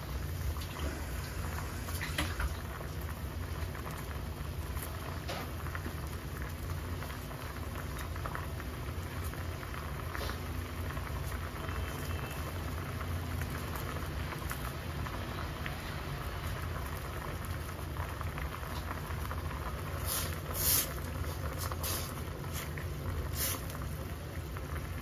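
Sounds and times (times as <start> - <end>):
broth simmering and bubbling: 0.0 - 25.0.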